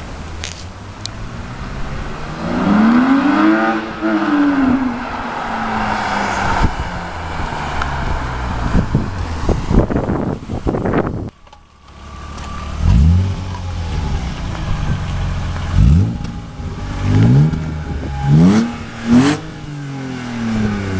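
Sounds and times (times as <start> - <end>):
car engine revving: 0.4 - 20.9.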